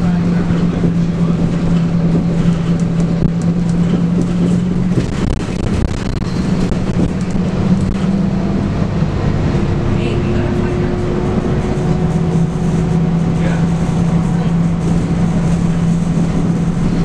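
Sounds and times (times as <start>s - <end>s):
bus diesel engine drone: 0.0s - 17.0s
road noise: 0.0s - 17.0s.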